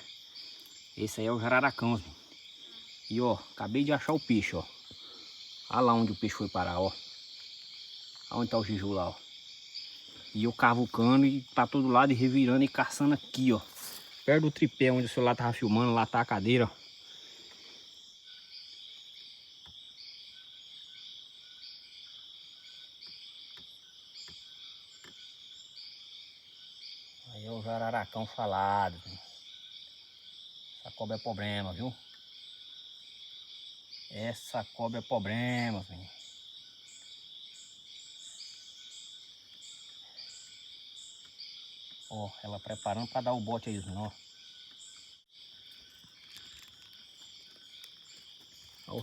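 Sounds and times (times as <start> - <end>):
insects buzzing: 0.0 - 49.0.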